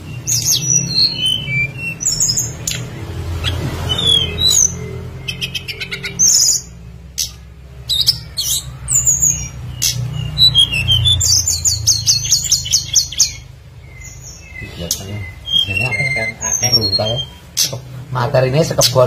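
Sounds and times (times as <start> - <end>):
small bird chirping and whistling: 0.0 - 17.9.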